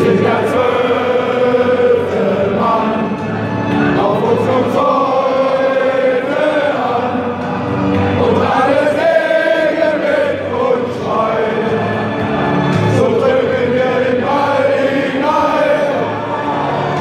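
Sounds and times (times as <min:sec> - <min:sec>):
stadium crowd singing in unison: 0:00.0 - 0:17.0.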